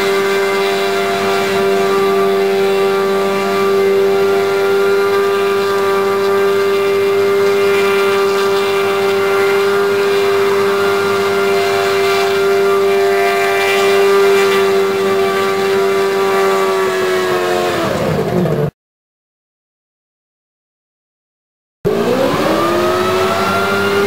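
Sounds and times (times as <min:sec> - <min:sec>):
jetpack engine and fans whining: 0:00.0 - 0:18.7, 0:21.9 - 0:24.0.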